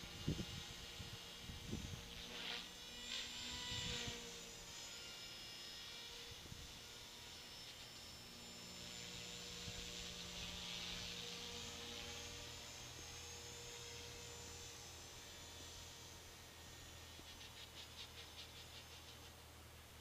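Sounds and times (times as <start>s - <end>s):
rc helicopter buzzing whine: 0.0s - 20.0s.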